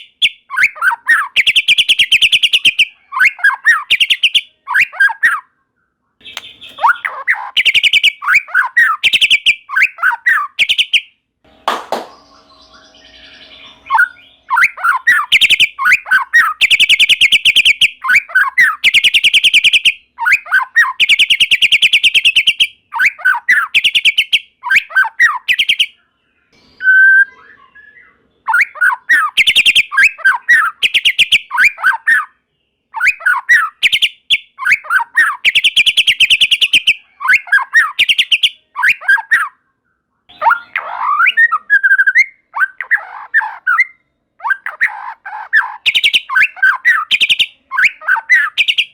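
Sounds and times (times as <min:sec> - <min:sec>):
songbird singing trills and whistles: 0:00.0 - 0:05.6, 0:06.2 - 0:11.1, 0:12.1 - 0:26.0, 0:26.6 - 0:39.6, 0:40.3 - 0:48.9.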